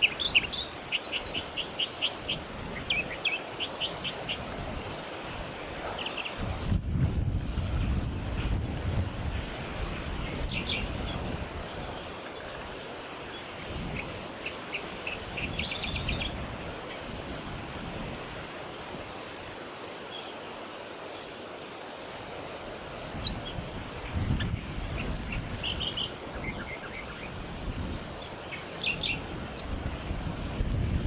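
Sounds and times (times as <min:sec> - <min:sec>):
wind buffeting microphone: 0:00.0 - 0:19.5, 0:22.2 - 0:31.0
wind in leaves: 0:00.0 - 0:31.0.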